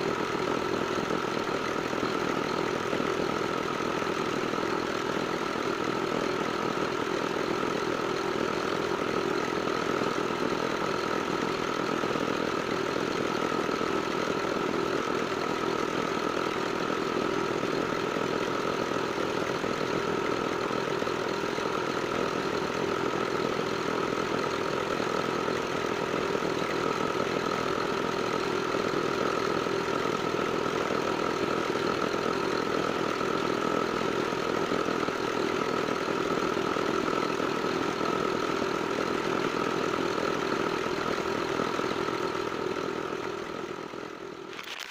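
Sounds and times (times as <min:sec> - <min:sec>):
small diesel engine running: 0:00.0 - 0:44.9.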